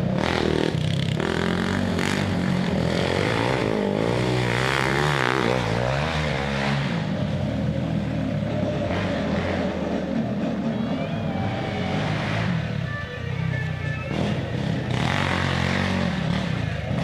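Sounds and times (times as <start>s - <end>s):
quad bike engine revving: 0.0s - 17.0s.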